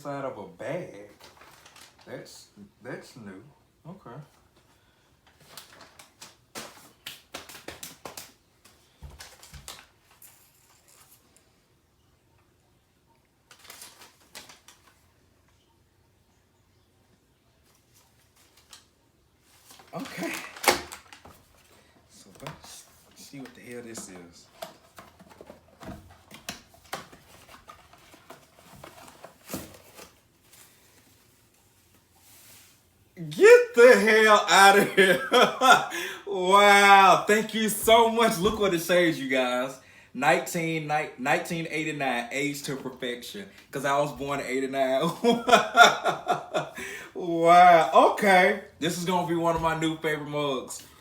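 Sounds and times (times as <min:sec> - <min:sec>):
gift wrapping rustling: 0:00.7 - 0:02.5, 0:04.4 - 0:11.6, 0:13.4 - 0:15.2, 0:17.6 - 0:39.6, 0:42.2 - 0:51.0.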